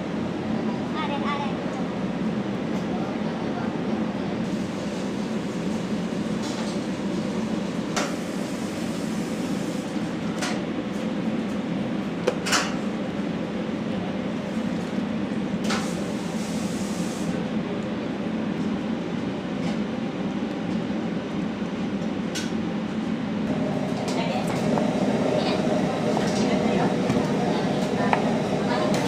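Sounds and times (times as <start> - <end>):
low ventilation hum: 0.0 - 29.0.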